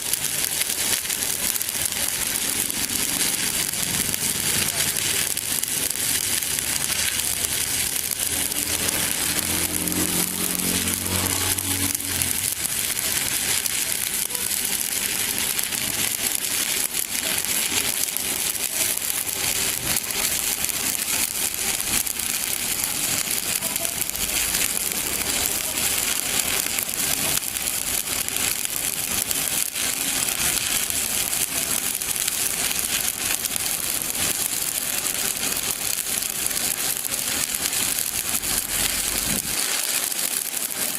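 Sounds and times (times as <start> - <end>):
welding arc crackling and sizzling: 0.0 - 40.9.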